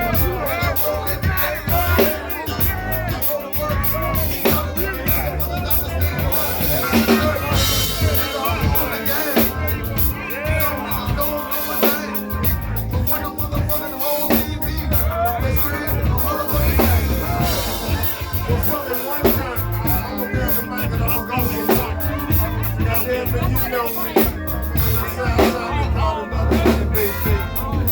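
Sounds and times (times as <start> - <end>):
drum kit and heavy bass groove: 0.0 - 27.9
wavering voices or instruments: 0.0 - 27.9.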